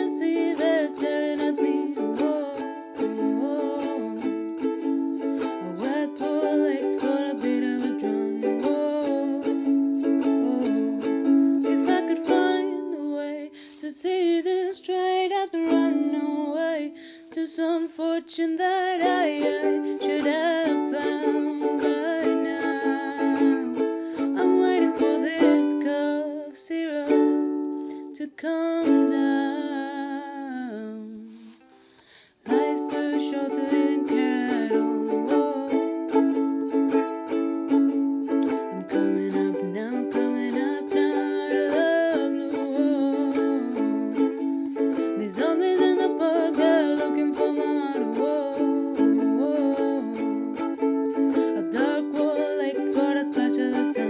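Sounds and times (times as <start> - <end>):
woman singing: 0.0 - 31.8, 32.4 - 54.0
ukulele strumming: 0.0 - 54.0.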